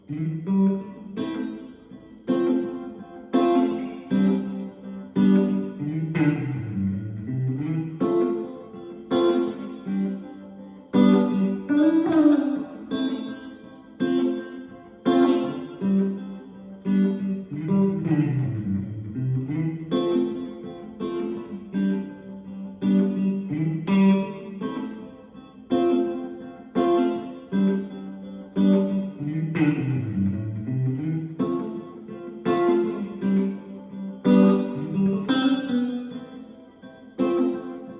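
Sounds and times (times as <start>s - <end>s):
electric guitar strumming chords: 0.0s - 37.9s.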